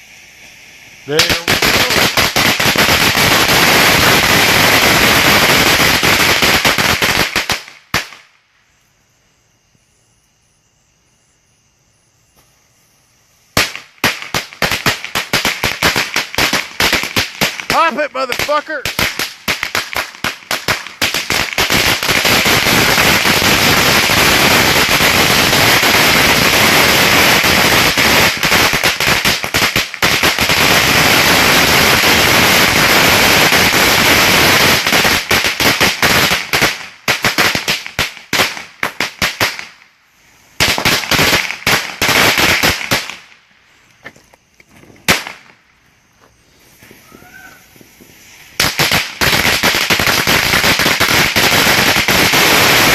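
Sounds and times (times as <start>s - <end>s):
firecrackers banging: 1.0s - 8.3s, 13.5s - 39.8s, 40.6s - 45.8s, 46.5s - 52.9s.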